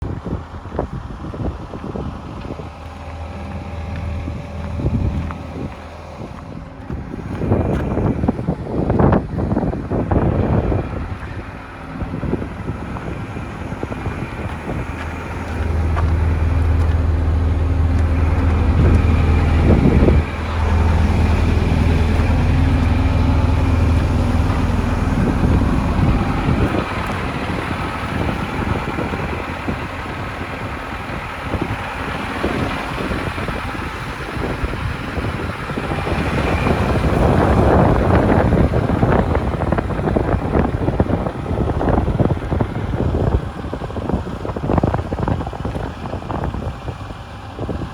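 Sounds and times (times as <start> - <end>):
diesel engine drone: 0.0 - 47.9
wind buffeting microphone: 0.0 - 47.9.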